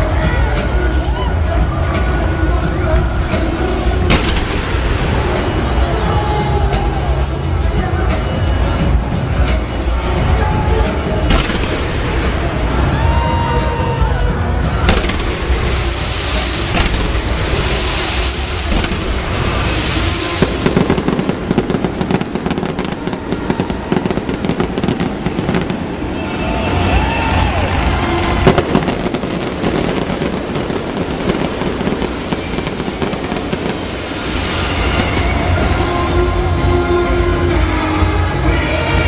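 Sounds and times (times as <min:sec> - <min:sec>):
fireworks crackling and banging: 0:00.0 - 0:39.0.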